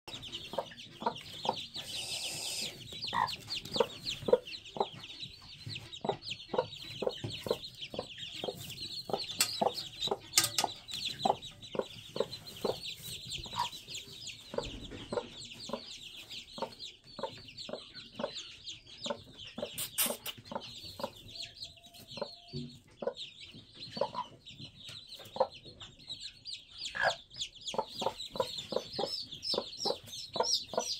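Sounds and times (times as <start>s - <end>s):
chicks peeping: 0.1s - 30.9s
hen clucking: 0.1s - 30.9s.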